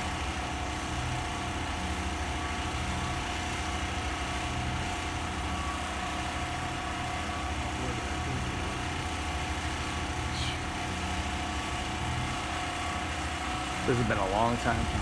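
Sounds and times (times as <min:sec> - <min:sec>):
engine running steadily: 0:00.0 - 0:15.0
faint steady whine: 0:00.0 - 0:15.0.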